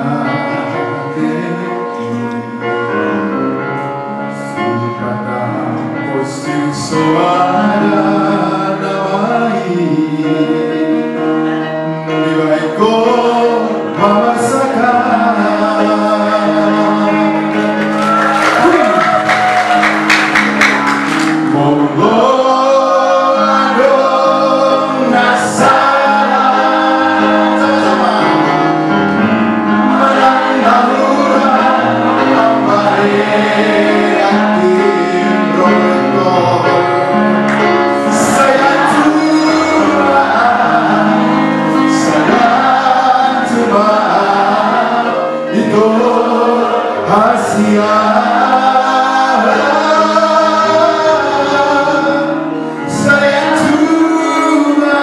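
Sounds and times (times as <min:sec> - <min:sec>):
man singing through pa: 0:00.0 - 0:03.6, 0:04.3 - 0:17.8, 0:21.4 - 0:55.0
held keyboard chords: 0:00.0 - 0:55.0.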